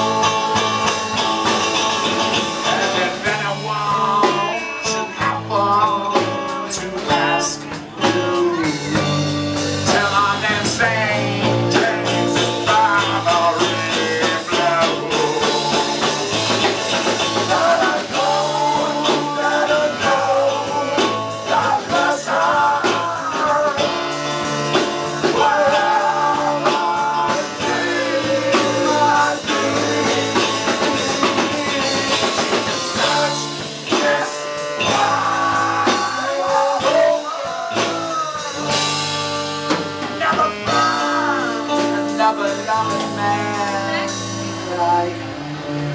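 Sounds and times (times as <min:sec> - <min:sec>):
drums: 0:00.0 - 0:45.9
electric guitar: 0:00.0 - 0:45.9.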